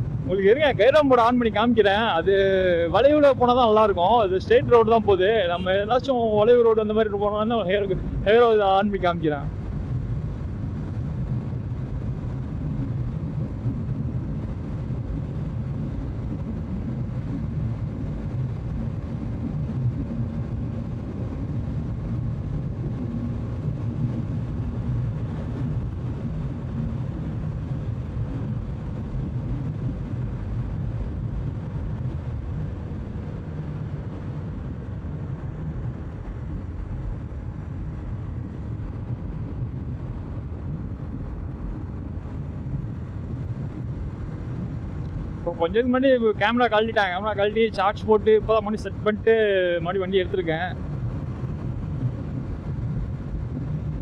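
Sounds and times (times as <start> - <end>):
wind noise: 0.0 - 54.0.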